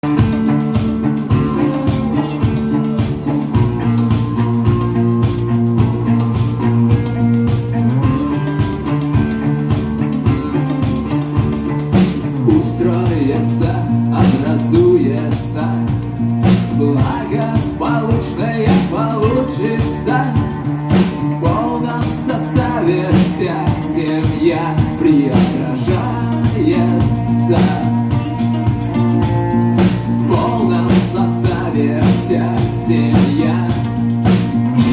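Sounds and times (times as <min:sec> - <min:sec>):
live rock band playing: 0:00.0 - 0:34.9
steady drum beat: 0:00.0 - 0:34.9
wavering lead melody: 0:00.0 - 0:34.9.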